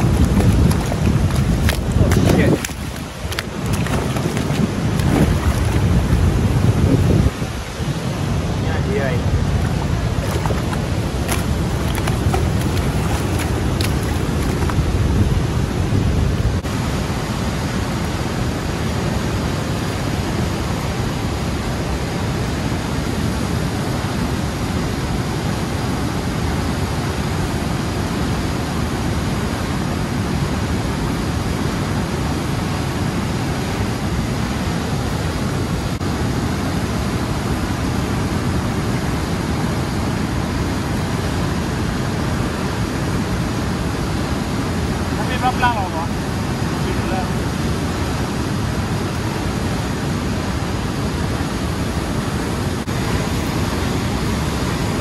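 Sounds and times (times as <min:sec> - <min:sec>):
turbulent water rushing: 0:00.0 - 0:55.0.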